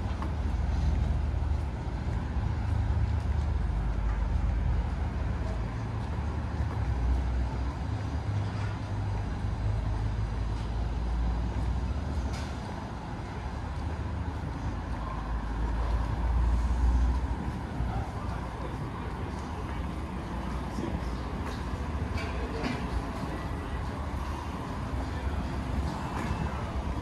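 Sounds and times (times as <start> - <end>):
passing vehicle engines and tyres: 0.0 - 27.0.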